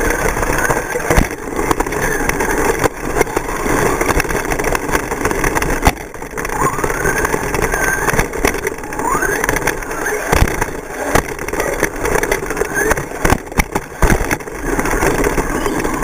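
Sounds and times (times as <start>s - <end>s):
rc truck motors whining: 0.0s - 16.0s
sharp clicks: 0.0s - 16.0s.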